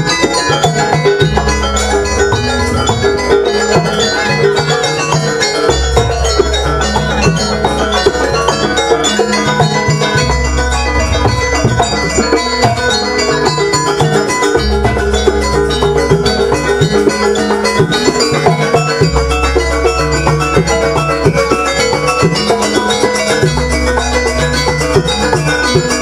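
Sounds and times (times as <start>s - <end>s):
drumming: 0.0s - 26.0s
metal percussion ringing notes: 0.0s - 26.0s.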